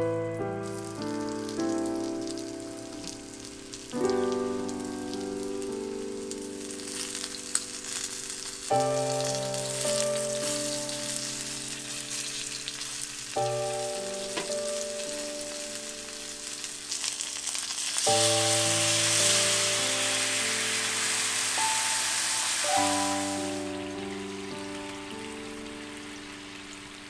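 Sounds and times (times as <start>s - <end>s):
soft background music: 0.0s - 27.0s
chicken sizzling in a frying pan: 0.6s - 27.0s
sauce bubbling: 0.6s - 27.0s.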